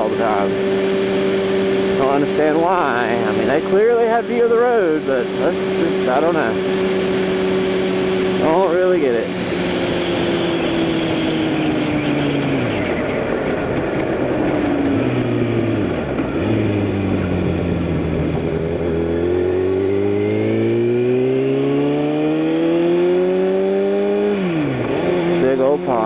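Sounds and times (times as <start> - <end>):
motorcycle engine: 0.0 - 26.0.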